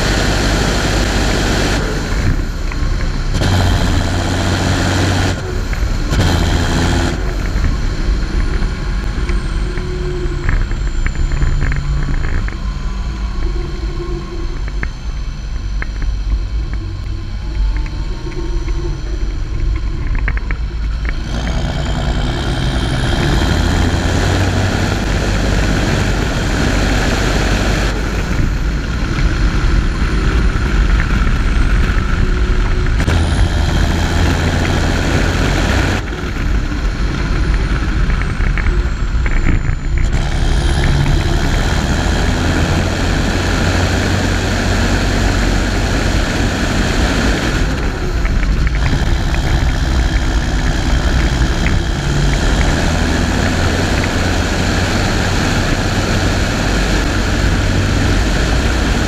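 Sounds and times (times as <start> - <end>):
faint high whine: 0.0 - 59.0
tractor diesel engine running: 0.0 - 59.0.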